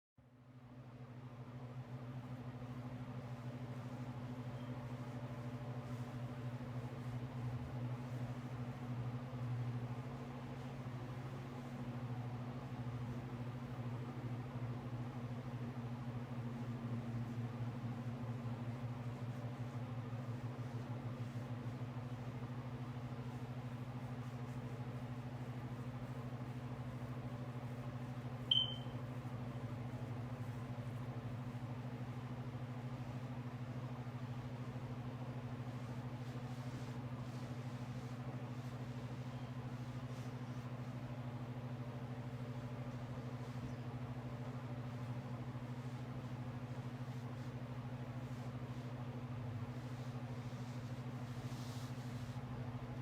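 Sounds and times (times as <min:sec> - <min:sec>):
low mechanical hum: 0:00.2 - 0:53.0.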